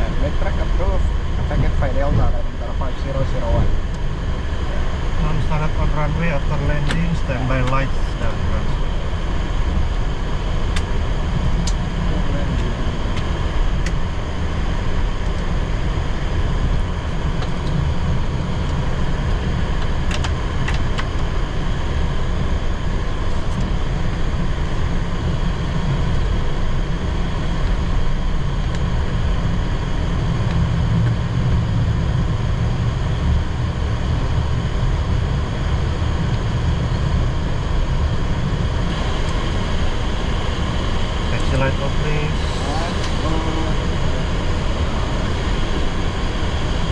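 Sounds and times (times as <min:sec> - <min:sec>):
aircraft cockpit rumble and hum: 0:00.0 - 0:46.9.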